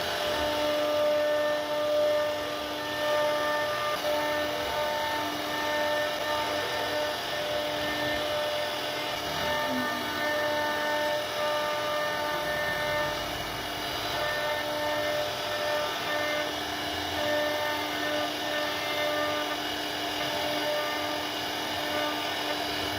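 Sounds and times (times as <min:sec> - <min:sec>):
router spindle carving wood: 0:00.0 - 0:22.9.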